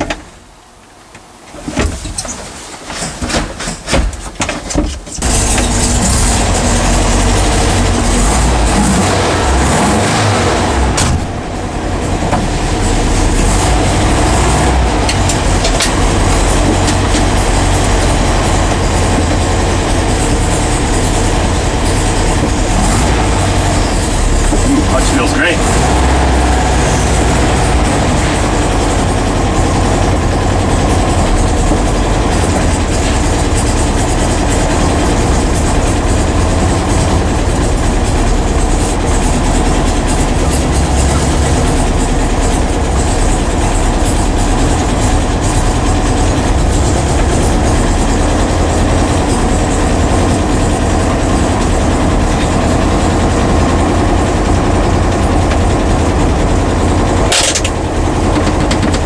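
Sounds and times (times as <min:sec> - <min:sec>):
car engine running inside cabin: 0:05.2 - 0:59.0.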